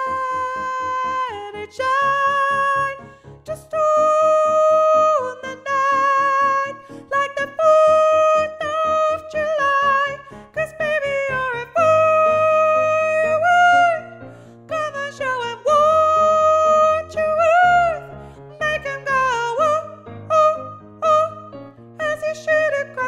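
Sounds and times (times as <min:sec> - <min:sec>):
person singing long notes: 0:00.0 - 0:23.0
piano chords: 0:00.0 - 0:23.0.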